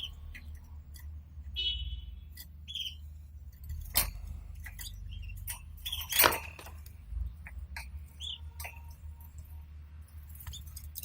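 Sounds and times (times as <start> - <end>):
canary chirp: 0.0 - 11.0
steady low hum: 0.0 - 11.0.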